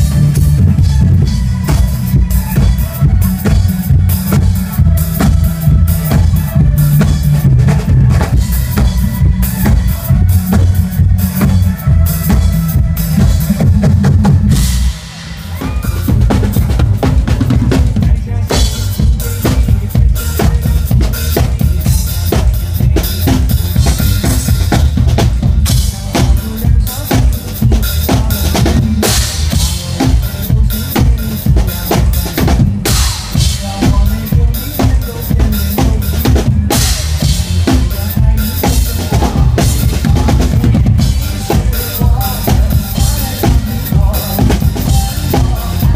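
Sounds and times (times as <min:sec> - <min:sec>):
backing track with heavy bass: 0:00.0 - 0:45.9
drum kit playing pop beat: 0:00.0 - 0:45.9.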